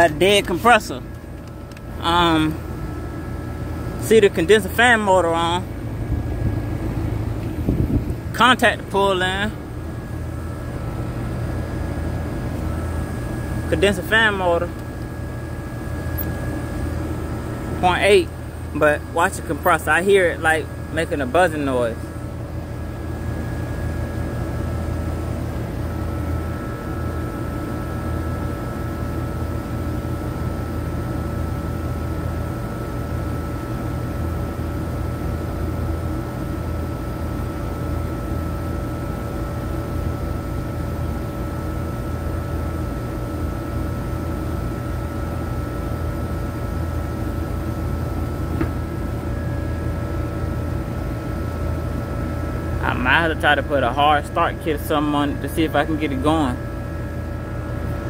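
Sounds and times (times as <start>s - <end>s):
condenser fan humming: 0.0s - 58.0s.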